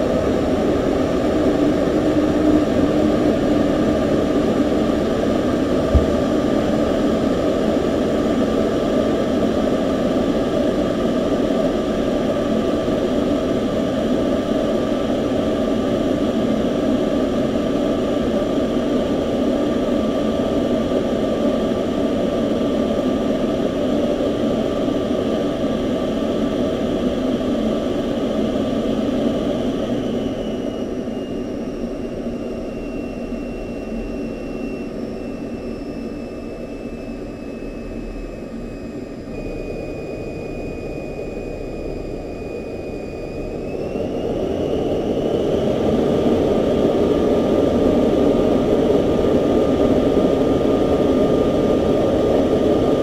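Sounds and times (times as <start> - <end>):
high engine whine: 0.0 - 53.0
jet engine rush in cockpit: 0.0 - 53.0.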